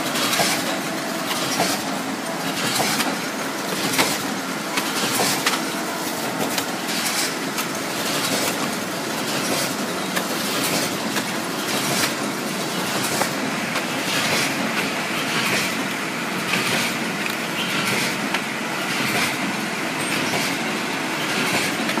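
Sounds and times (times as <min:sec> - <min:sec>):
packing machine clattering: 0:00.0 - 0:22.0.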